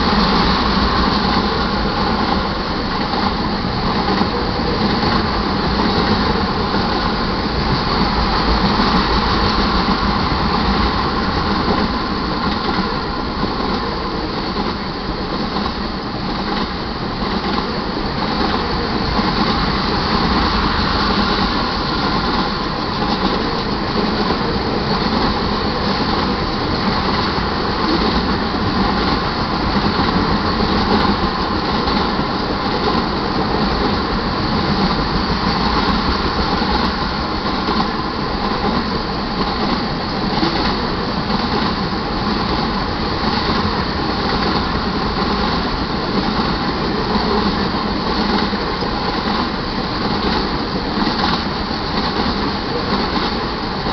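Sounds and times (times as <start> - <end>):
freight train rolling past: 0.0 - 53.9
steel wheels rumbling on rails: 0.0 - 53.9.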